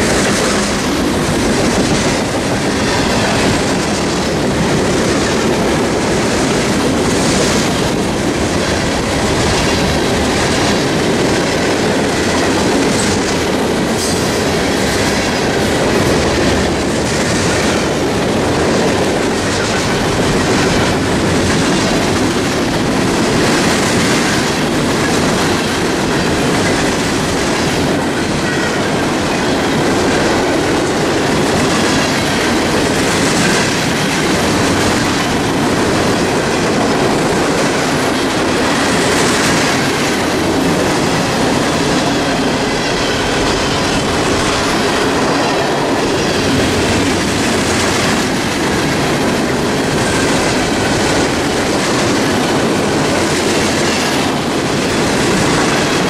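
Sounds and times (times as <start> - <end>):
freight train wheels rumbling: 0.0 - 56.0
wheels clacking: 0.0 - 56.0.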